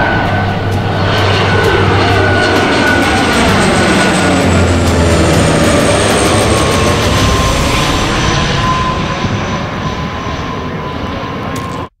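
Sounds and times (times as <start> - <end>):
turboprop engines passing overhead: 0.0 - 11.9.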